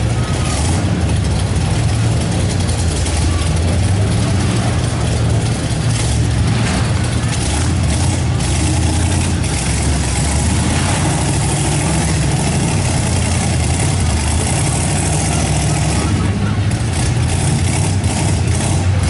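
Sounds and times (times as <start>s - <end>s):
buggy engine running loud: 0.0s - 19.0s.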